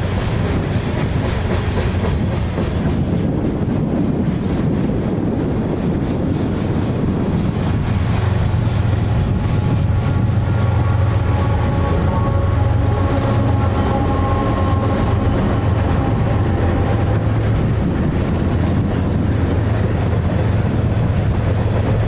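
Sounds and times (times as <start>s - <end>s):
diesel locomotive drone: 0.0s - 22.0s.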